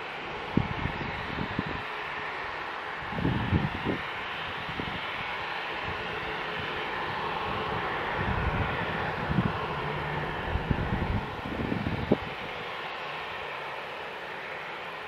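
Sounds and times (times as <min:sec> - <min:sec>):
jet airliner rushing hiss: 0:00.0 - 0:15.0.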